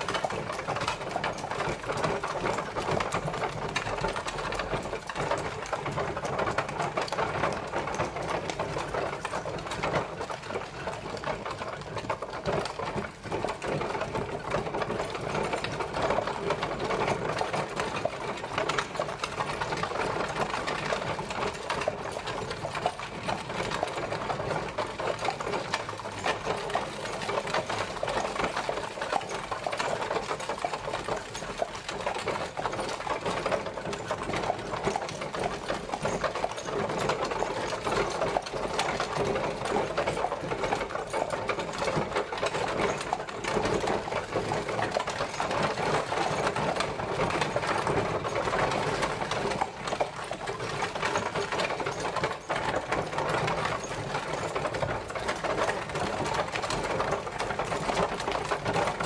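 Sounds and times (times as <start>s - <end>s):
carriage wheels clattering: 0.0s - 59.0s.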